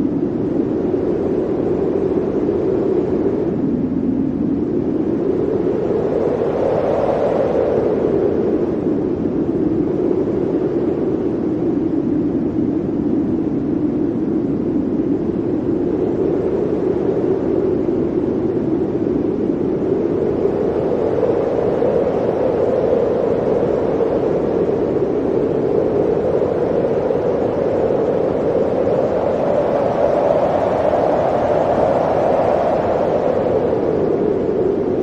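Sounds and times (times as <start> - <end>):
blizzard wind howling: 0.0 - 35.0.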